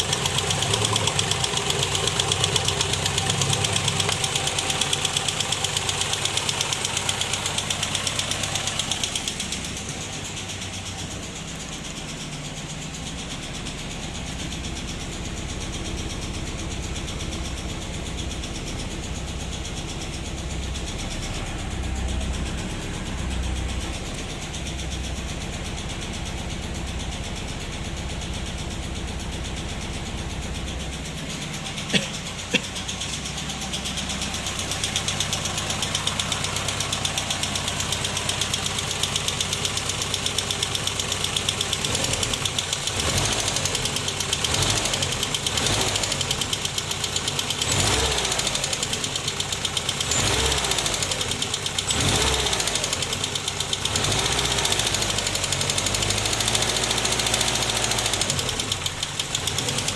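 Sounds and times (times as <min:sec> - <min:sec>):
car engine idling with rapid ticking: 0:00.0 - 0:59.9.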